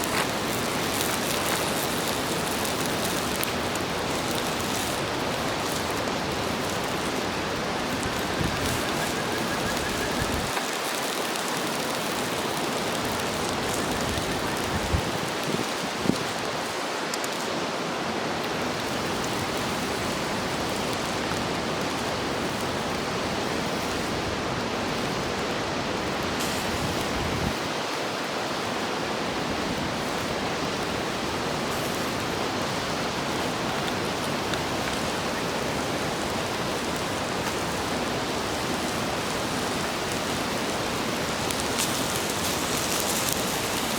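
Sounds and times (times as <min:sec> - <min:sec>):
food sizzling on a griddle: 0:00.0 - 0:43.9.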